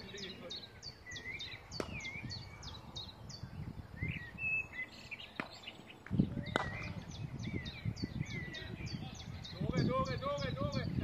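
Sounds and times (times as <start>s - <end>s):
bird chirping: 0.0s - 11.0s
outdoor noise: 0.0s - 11.0s.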